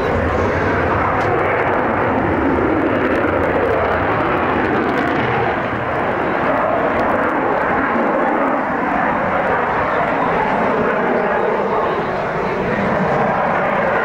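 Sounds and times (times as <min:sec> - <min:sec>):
jet engine roaring: 0:00.0 - 0:14.0.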